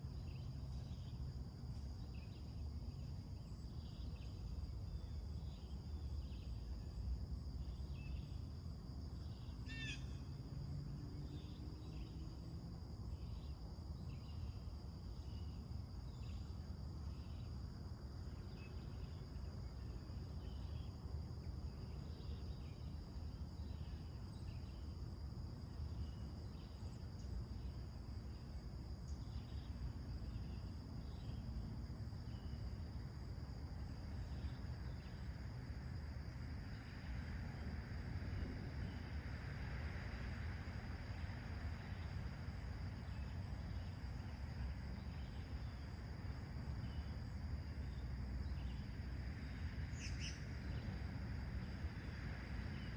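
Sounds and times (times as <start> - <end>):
crickets chorus: 0.0 - 52.9.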